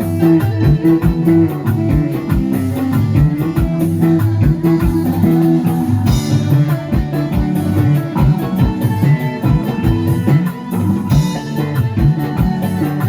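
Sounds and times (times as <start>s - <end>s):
bass guitar: 0.0s - 13.0s
guitar: 0.0s - 13.0s
steady kick drum beat: 0.0s - 13.0s.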